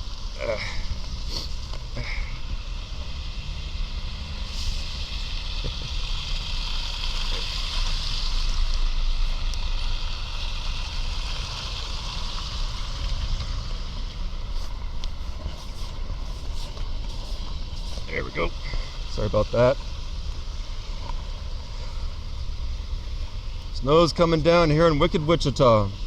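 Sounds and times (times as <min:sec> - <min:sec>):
low traffic rumble: 0:00.0 - 0:26.0
tyres hissing on wet road: 0:00.0 - 0:26.0.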